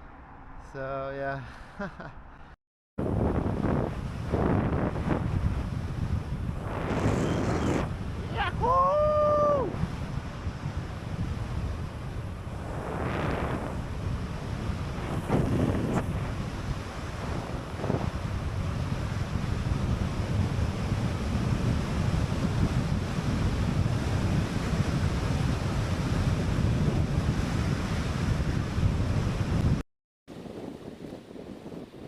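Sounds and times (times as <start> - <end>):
wind buffeting microphone: 3.0 - 32.0.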